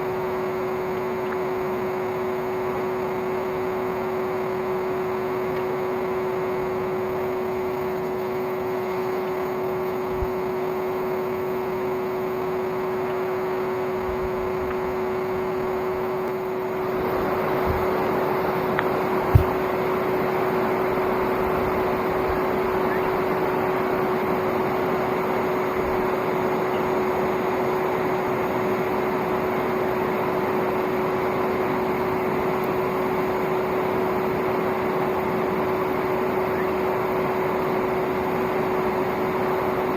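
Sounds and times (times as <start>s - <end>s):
vacuum motor hum: 0.0s - 39.9s.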